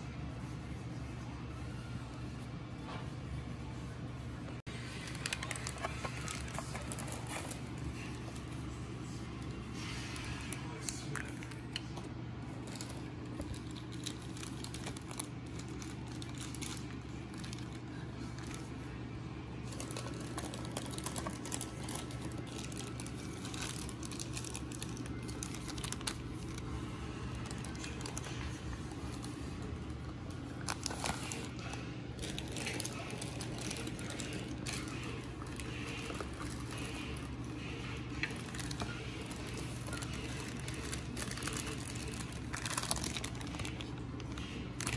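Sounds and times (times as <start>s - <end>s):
plastic bags crinkling: 4.7s - 11.9s, 12.5s - 19.0s, 19.6s - 44.9s.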